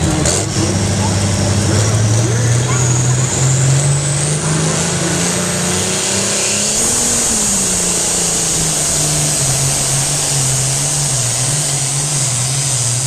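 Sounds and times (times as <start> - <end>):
tractor engine running hard: 0.0 - 13.0.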